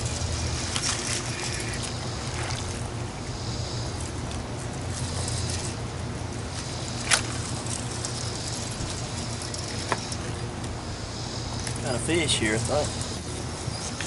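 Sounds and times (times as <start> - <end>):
boat motor humming: 0.0 - 14.0
wind: 0.0 - 14.0.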